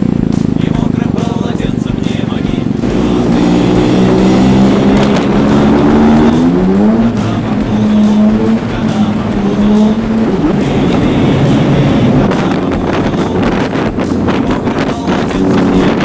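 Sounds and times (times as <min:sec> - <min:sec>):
motorcycle engine accelerating: 0:00.0 - 0:16.0
music playing: 0:00.0 - 0:16.0.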